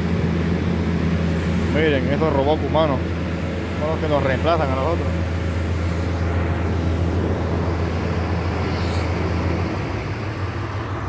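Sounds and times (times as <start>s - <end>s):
engine idling deep hum: 0.0s - 11.0s.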